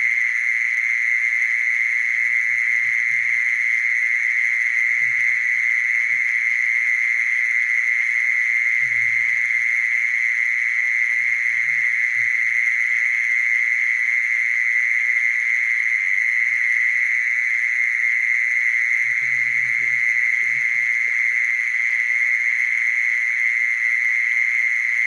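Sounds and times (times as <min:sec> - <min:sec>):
mole cricket singing: 0:00.0 - 0:25.0.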